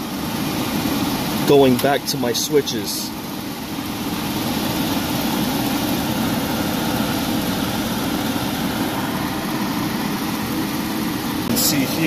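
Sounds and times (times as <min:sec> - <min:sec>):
furnace blower motor running: 0:00.0 - 0:12.0.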